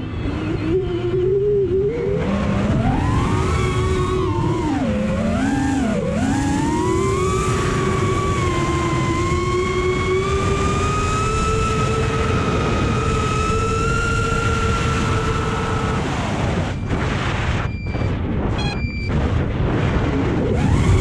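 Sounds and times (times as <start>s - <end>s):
drone motors whining: 0.0s - 21.0s
wind rushing on microphone: 0.0s - 21.0s.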